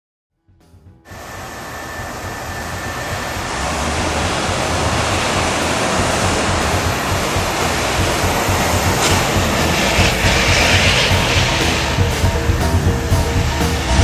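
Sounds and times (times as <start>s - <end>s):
car driving by: 1.1s - 14.0s.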